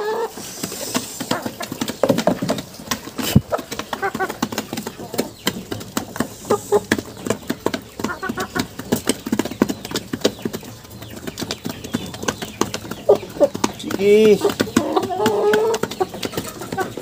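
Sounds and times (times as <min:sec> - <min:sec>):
hens clucking: 0:00.0 - 0:17.0
beaks tapping on wood: 0:00.6 - 0:17.0.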